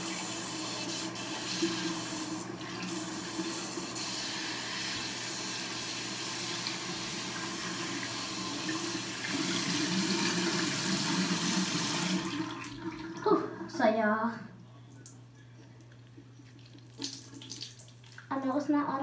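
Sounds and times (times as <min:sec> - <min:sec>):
tap water running: 0:00.0 - 0:14.0, 0:16.6 - 0:19.0.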